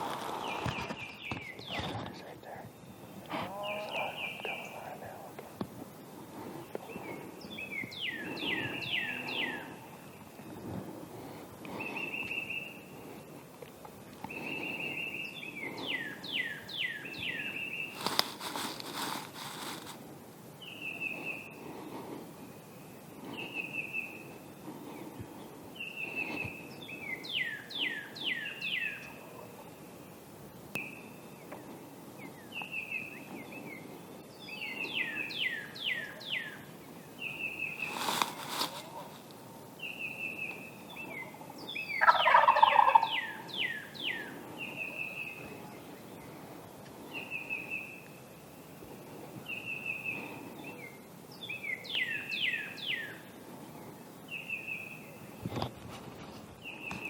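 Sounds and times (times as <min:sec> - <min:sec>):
songbird singing: 0:00.0 - 0:10.7, 0:11.6 - 0:57.0.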